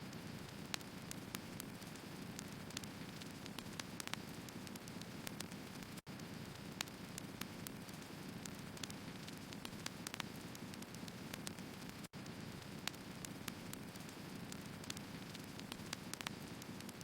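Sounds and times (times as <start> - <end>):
firewood crackling: 0.1 - 17.0.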